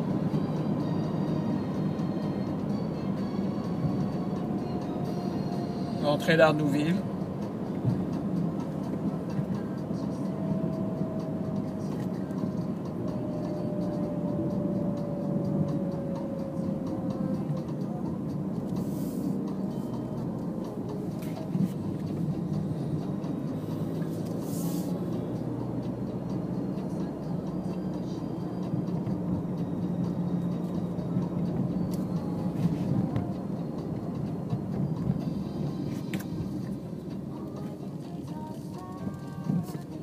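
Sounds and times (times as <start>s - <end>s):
car engine: 0.0s - 40.0s
tyre-on-road noise: 0.0s - 40.0s.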